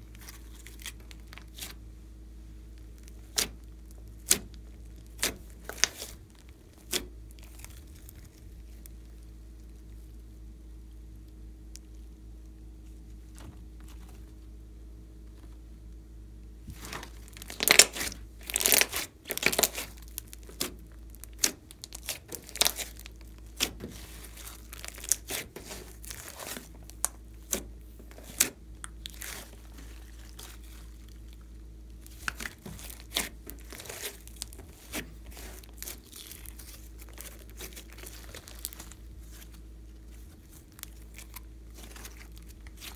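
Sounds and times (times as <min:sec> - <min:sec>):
slime crackling and popping: 0:02.7 - 0:12.0, 0:16.7 - 0:42.9.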